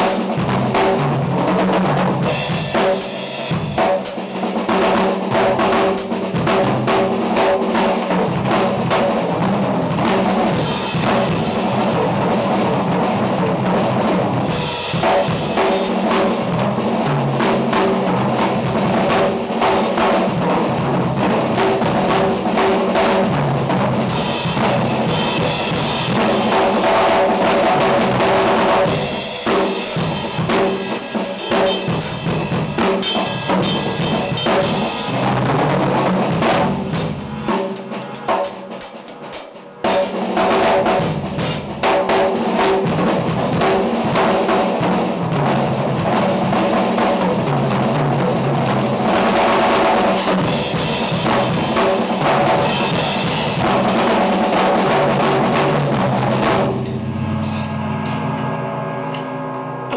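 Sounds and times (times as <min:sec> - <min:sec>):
drum kit solo: 0:00.0 - 0:59.9.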